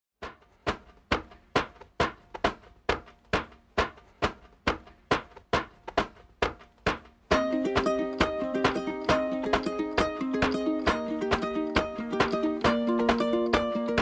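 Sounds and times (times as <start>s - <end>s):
percussive beat of sharp hits: 0.2s - 14.0s.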